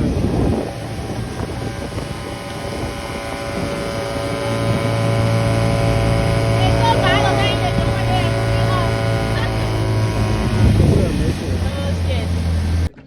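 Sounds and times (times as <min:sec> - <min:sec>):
motorboat engine running: 0:00.0 - 0:13.0
wind on microphone: 0:00.0 - 0:13.0.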